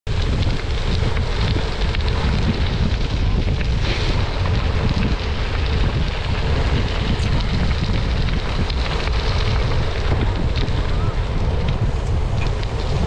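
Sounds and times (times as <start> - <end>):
tyres rolling on gravel: 0.1 - 13.0
wind buffeting microphone: 0.1 - 13.0.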